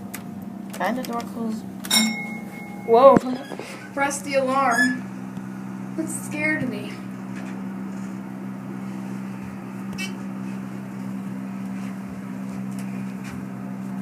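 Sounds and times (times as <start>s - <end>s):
elevator hum: 0.0s - 14.0s.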